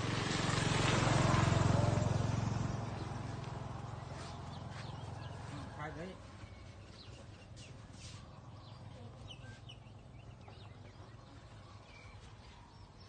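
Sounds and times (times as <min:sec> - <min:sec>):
birds chirping: 0:01.2 - 0:13.0.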